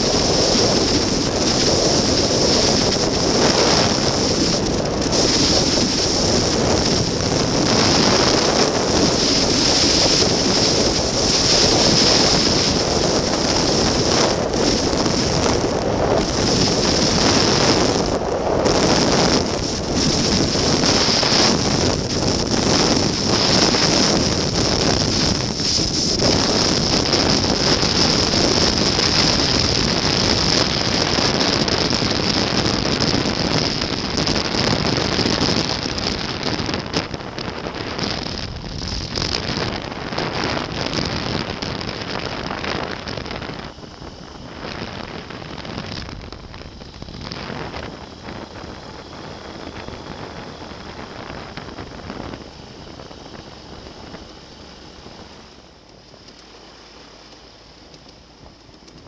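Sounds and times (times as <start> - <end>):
wheels and airframe rumble: 0.0 - 59.0
wind on microphone: 0.0 - 59.0.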